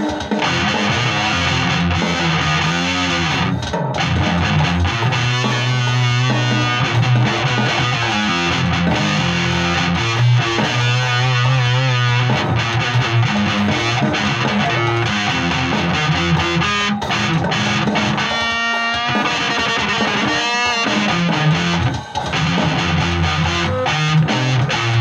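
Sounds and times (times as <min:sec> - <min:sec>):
electric guitar playing: 0:00.0 - 0:25.0.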